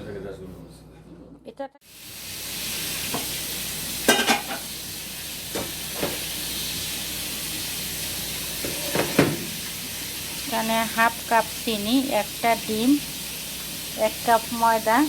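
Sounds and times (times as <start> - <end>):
food sizzling in hot oil: 1.8 - 15.0.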